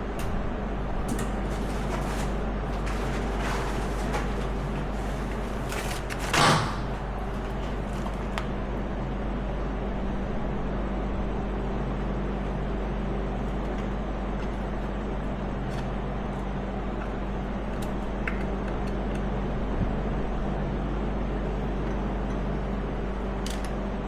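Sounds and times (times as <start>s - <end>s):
mechanical hum and hiss: 0.0s - 24.0s.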